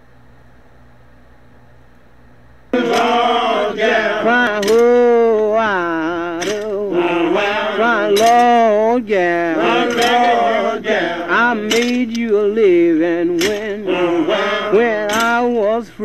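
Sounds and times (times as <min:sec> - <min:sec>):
person singing unaccompanied: 0:02.8 - 0:16.0.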